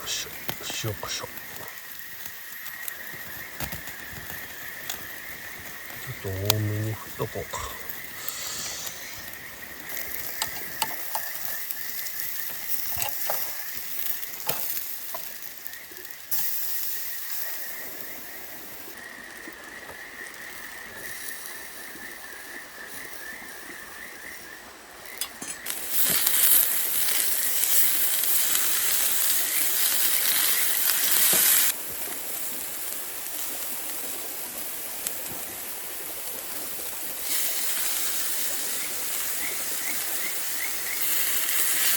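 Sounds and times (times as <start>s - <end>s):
chicken sizzling in a pan: 0.0s - 41.9s.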